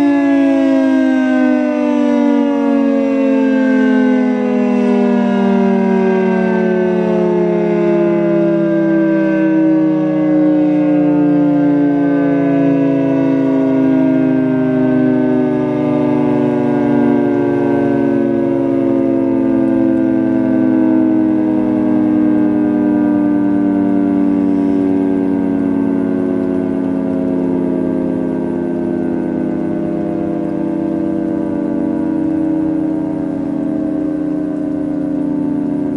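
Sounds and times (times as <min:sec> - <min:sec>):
two-tone warning siren: 0:00.0 - 0:35.9.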